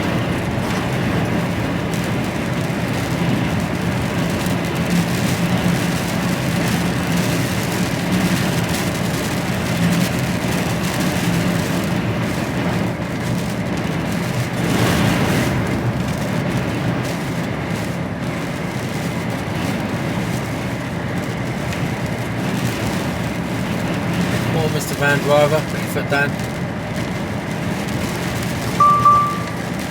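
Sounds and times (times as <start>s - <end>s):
road and wind noise: 0.0s - 29.9s.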